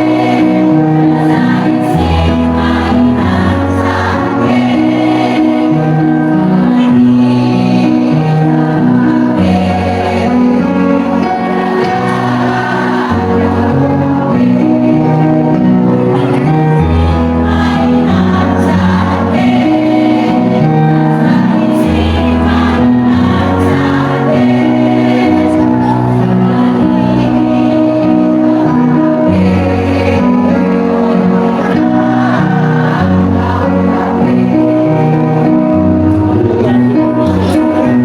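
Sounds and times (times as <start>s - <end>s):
choir singing held chords: 0.0s - 38.0s.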